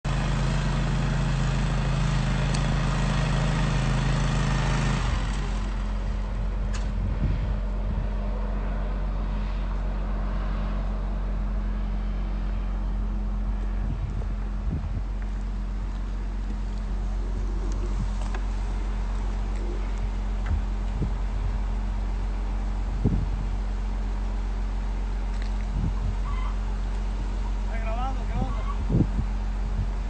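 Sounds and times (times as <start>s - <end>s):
large engine running: 0.0s - 30.0s.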